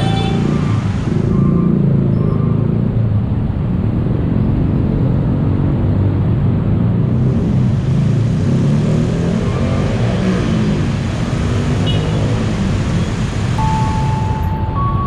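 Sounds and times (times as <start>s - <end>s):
traffic engines rumbling: 0.0s - 15.0s.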